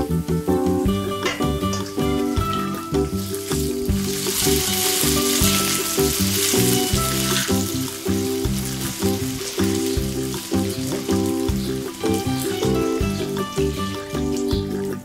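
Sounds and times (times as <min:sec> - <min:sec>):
background music: 0:00.0 - 0:15.0
chicken sizzling in hot oil: 0:00.0 - 0:15.0.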